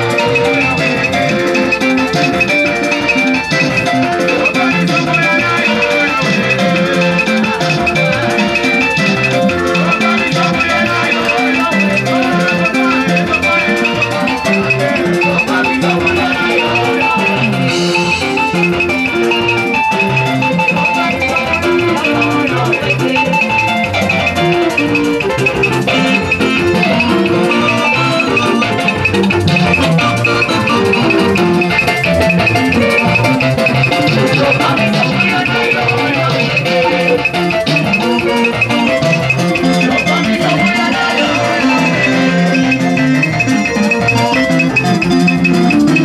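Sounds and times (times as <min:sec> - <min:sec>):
upbeat dance music: 0:00.0 - 0:46.0.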